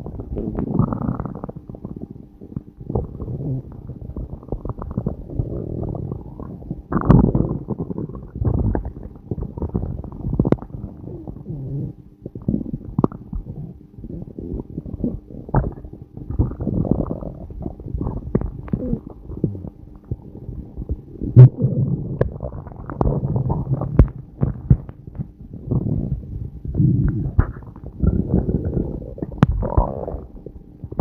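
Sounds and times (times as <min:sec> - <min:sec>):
stomach growling and gurgling: 0:00.0 - 0:31.0.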